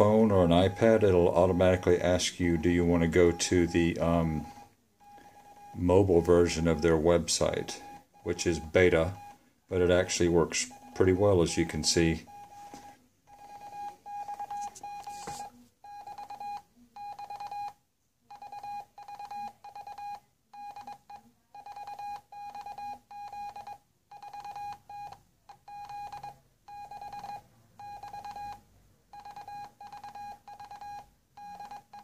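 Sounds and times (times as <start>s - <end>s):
morse code beeps: 0.0s - 32.0s.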